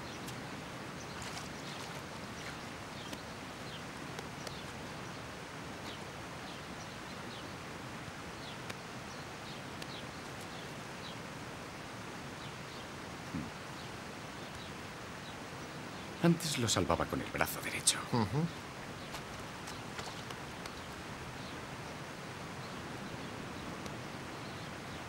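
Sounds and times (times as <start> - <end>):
running water: 0.0 - 25.0
rustling leaves: 0.0 - 25.0.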